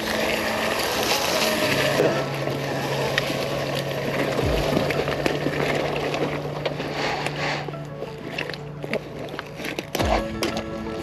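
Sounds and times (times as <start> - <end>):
bike rolling noise: 0.0 - 11.0.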